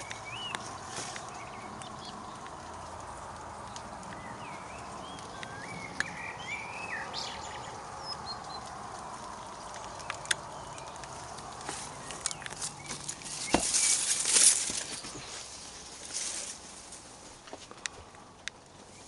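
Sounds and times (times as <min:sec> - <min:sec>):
birds chirping: 0:00.0 - 0:19.0
outdoor hiss: 0:00.0 - 0:19.0.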